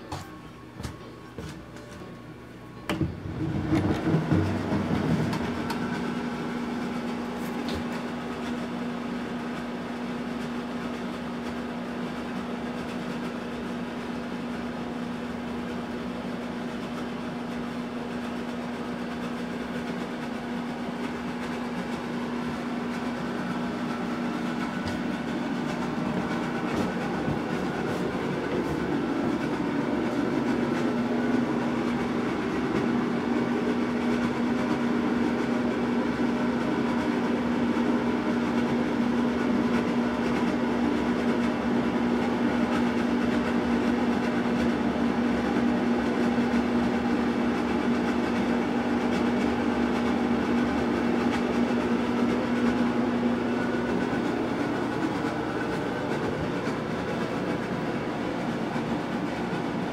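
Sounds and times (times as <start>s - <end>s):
noisy whir: 0.0s - 59.9s
steady mechanical hum: 0.0s - 59.9s.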